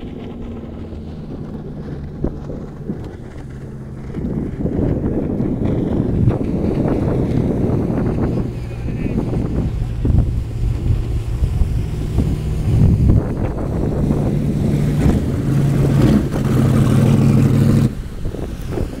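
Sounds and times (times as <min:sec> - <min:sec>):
boat engine running hard: 0:00.0 - 0:19.0
wind noise on microphone: 0:00.0 - 0:19.0.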